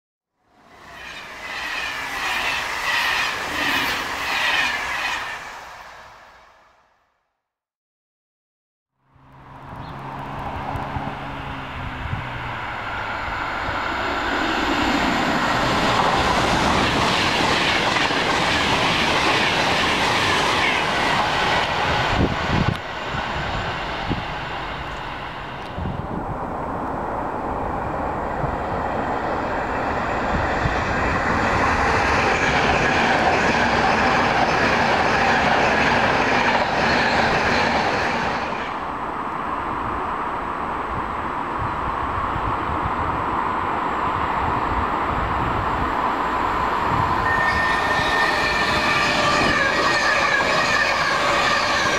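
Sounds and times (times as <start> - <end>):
trains passing at speed: 0.4 - 7.0, 9.0 - 51.9.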